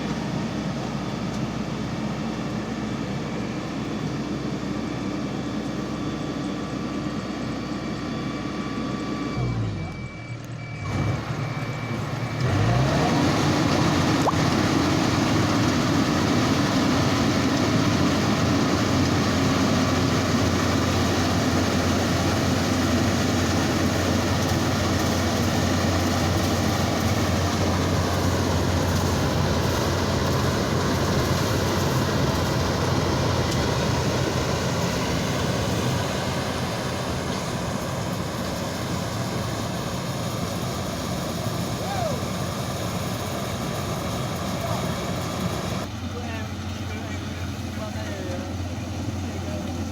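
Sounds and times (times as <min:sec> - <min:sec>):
combine harvester engine revving: 0:00.0 - 0:49.9.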